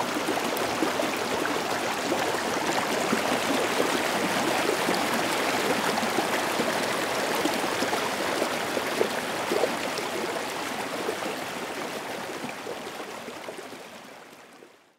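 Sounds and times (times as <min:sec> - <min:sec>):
stream cascading over rocks: 0:00.0 - 0:12.1.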